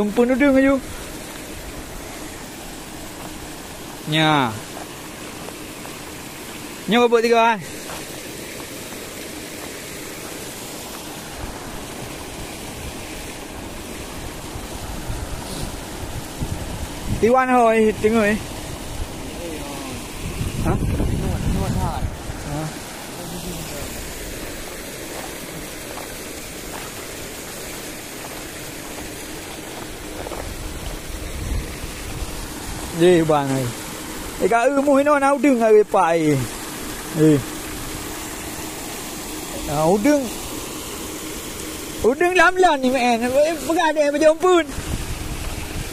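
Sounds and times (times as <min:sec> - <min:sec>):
aerators churning water: 0:00.0 - 0:45.9.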